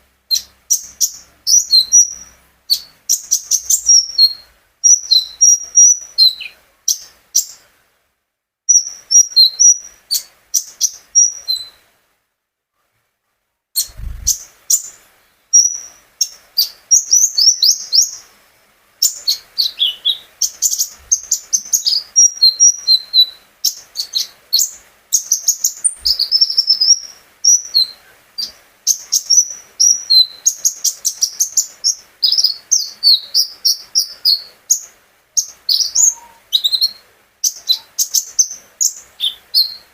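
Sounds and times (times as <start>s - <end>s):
songbird chirping and trilling: 0.3s - 7.6s, 8.7s - 11.9s, 15.6s - 18.3s, 19.0s - 39.9s.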